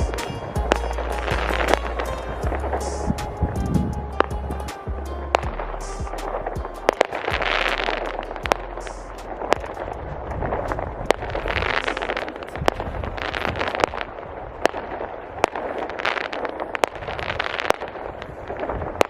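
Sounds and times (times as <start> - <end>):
firework shells bursting: 0.0 - 3.9, 4.7 - 19.0
fireworks crackling: 0.0 - 19.0.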